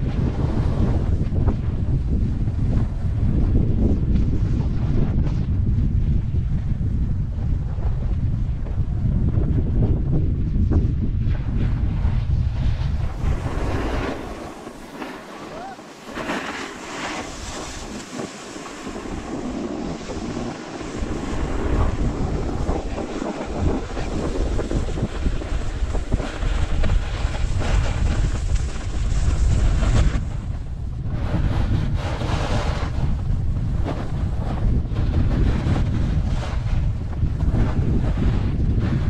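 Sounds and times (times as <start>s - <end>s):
snowboard scraping over snow: 0.0s - 39.0s
wind buffeting microphone: 0.0s - 39.0s.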